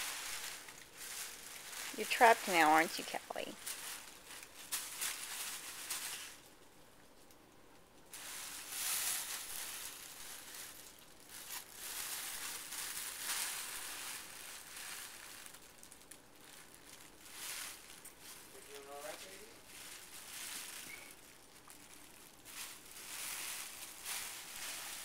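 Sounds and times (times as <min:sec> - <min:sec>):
plastic bags crinkling: 0:00.0 - 0:06.6, 0:08.1 - 0:25.0.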